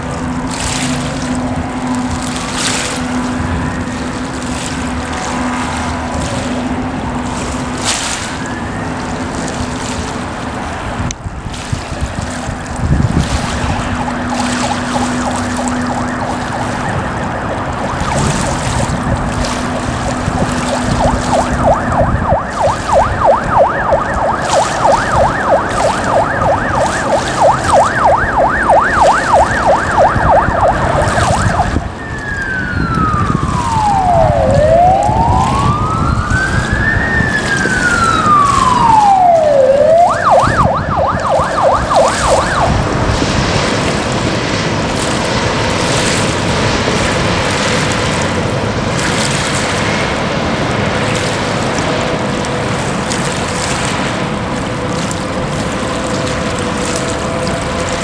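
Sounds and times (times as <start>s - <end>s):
emergency siren yelping and wailing: 0.0s - 10.9s, 12.2s - 49.0s, 49.9s - 58.0s.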